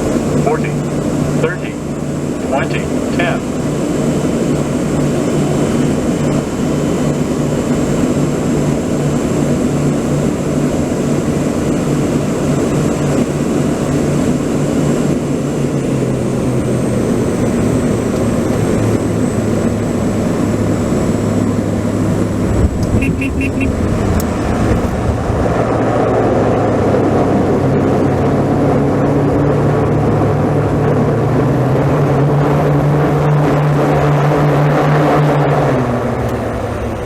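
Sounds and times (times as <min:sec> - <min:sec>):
engine running loudly: 0:00.0 - 0:37.0.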